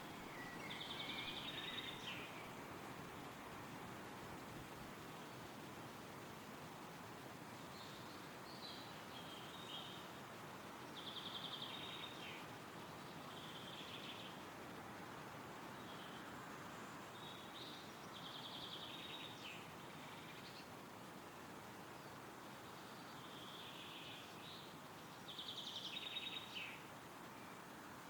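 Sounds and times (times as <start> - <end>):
songbird singing: 0.0 - 5.7, 7.5 - 28.0
wind rustling through trees: 0.0 - 28.0.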